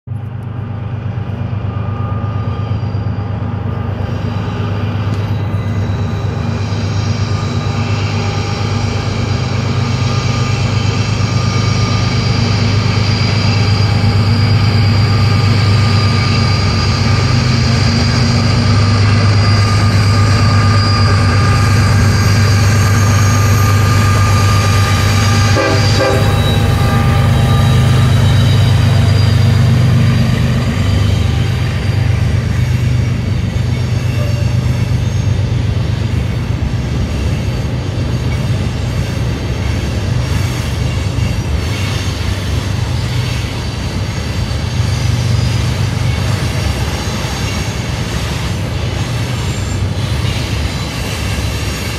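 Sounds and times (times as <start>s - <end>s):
diesel locomotive engine drone: 0.0s - 51.9s
high-pitched locomotive whines: 0.1s - 51.9s.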